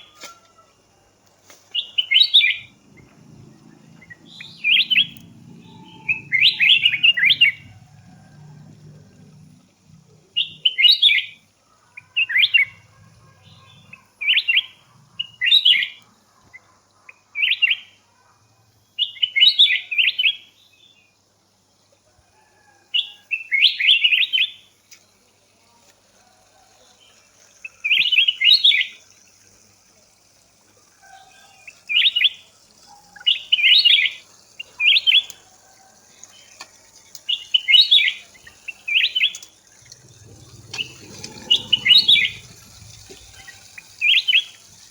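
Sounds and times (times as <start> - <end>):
songbird chirping: 0.0 - 25.9, 31.0 - 44.8.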